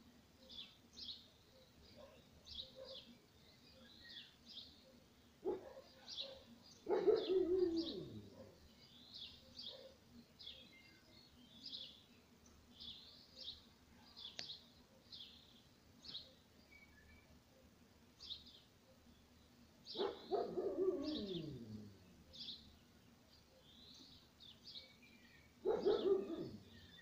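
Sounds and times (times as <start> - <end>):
small bird chirping: 0.4 - 17.4, 19.9 - 27.0.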